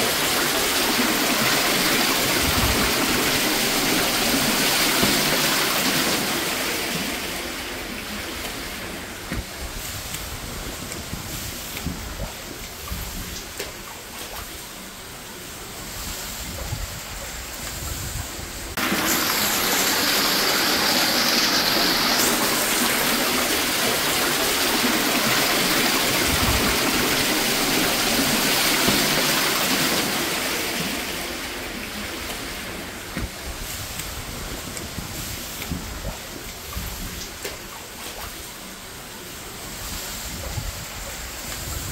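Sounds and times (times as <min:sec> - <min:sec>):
water rushing in toilet bowl: 0:00.0 - 0:41.9.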